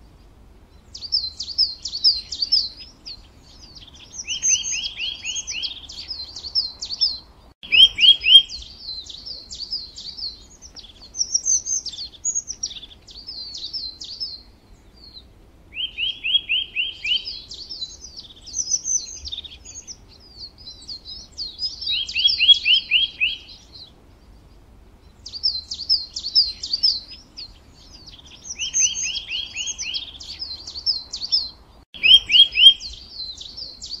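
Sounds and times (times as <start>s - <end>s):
songbirds chirping and twittering: 0.0s - 34.0s.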